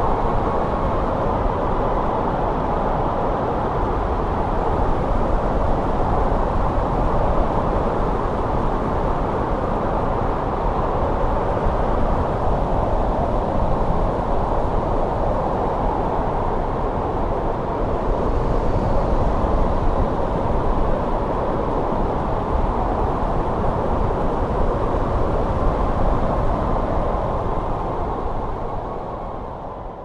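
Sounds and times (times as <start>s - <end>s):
steady wind rushing: 0.0s - 30.0s.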